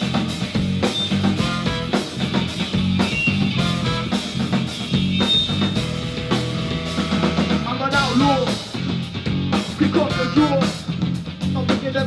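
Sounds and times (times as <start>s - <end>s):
drum kit kick and rimshot: 0.0s - 10.9s
live band playing: 0.0s - 12.0s.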